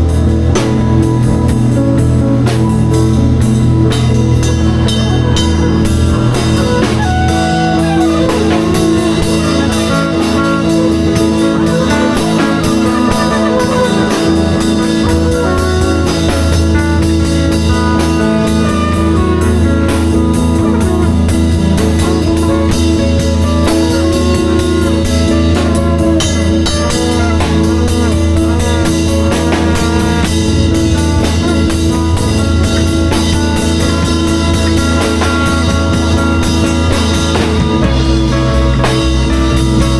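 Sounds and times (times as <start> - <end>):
drum kit: 0.0 - 39.9
electric guitar melody: 0.0 - 39.9
sustained bass: 0.0 - 39.9.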